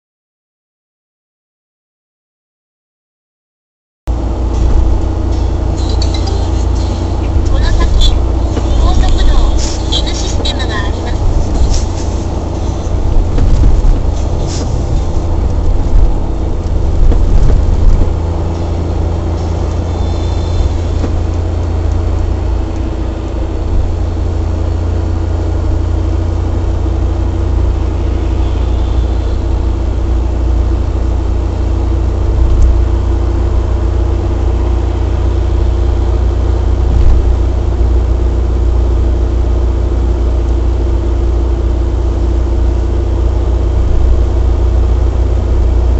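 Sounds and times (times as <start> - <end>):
car driving at highway speed: 4.1 - 45.9.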